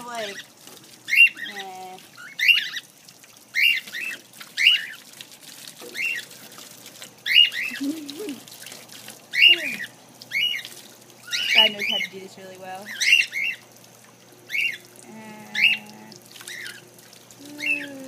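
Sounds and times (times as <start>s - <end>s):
faint running water: 0.0s - 18.0s.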